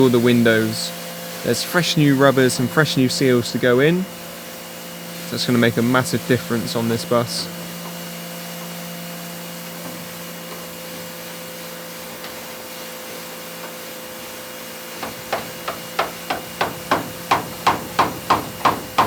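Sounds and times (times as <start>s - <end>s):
workshop machine hum: 0.0s - 19.0s.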